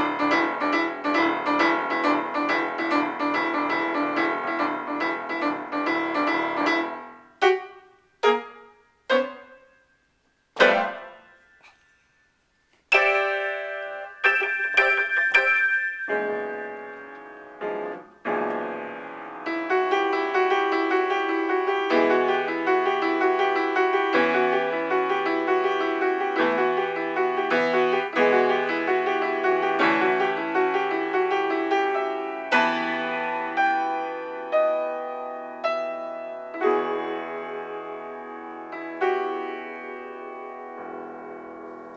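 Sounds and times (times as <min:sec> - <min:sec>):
piano improvisation: 0:00.0 - 0:09.9, 0:10.6 - 0:12.2, 0:12.9 - 0:41.9.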